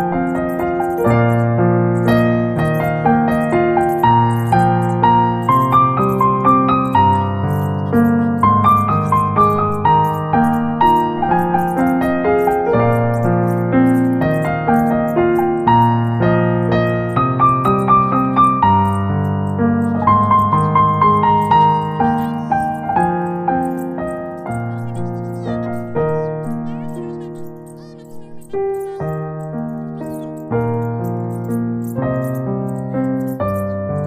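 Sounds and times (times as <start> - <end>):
piano music: 0.0 - 34.0.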